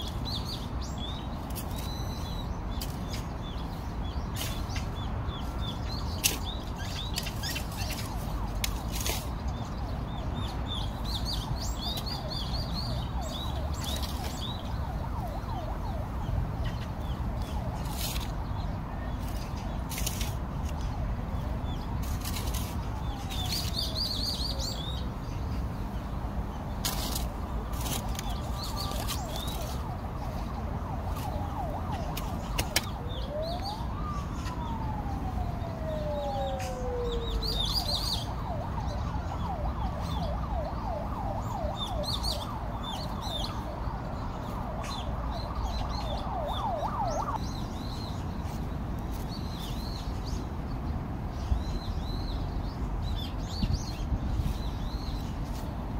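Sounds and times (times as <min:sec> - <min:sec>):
distant siren: 0:00.0 - 0:25.2, 0:26.8 - 0:50.4
small birds chirping: 0:00.0 - 0:55.7.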